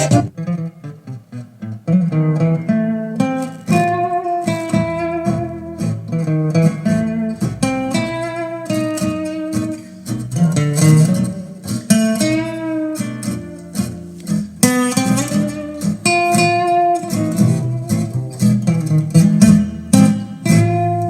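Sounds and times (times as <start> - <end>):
guitar music with strong bass: 0.0 - 21.0.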